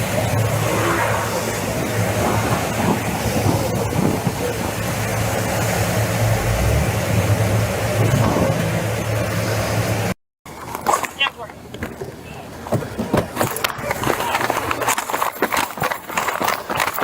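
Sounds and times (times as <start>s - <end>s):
vehicle engine hum: 0.0s - 15.6s
constant rushing noise: 0.0s - 17.0s.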